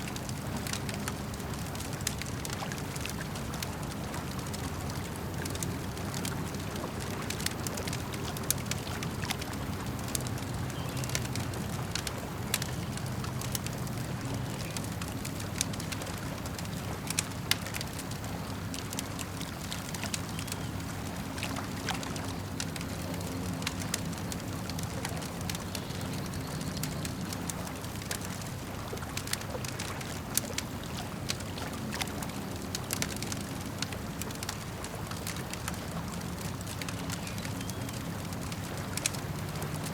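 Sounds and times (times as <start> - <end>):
campfire crackling and popping: 0.0 - 39.9
lake water lapping: 0.0 - 39.9.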